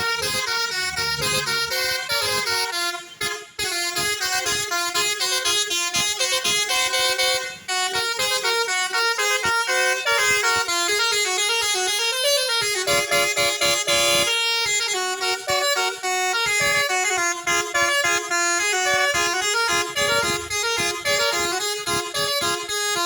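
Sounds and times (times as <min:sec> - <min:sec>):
bus musical horn playing tune: 0:00.0 - 0:23.0.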